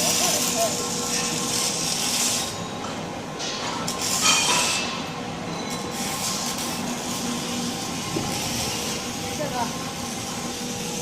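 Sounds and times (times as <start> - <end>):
welding hissing: 0.0 - 2.7, 3.8 - 5.0, 5.7 - 11.0
steady machinery hum: 0.0 - 11.0.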